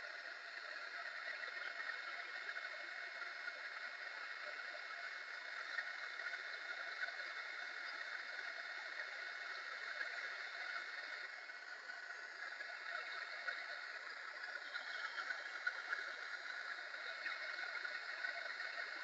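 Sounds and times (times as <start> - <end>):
faint steady tones: 0.0 - 19.0.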